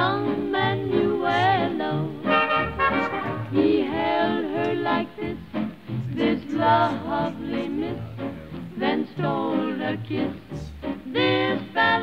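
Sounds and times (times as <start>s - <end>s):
person singing: 0.0s - 2.4s, 3.6s - 5.4s, 6.0s - 12.0s.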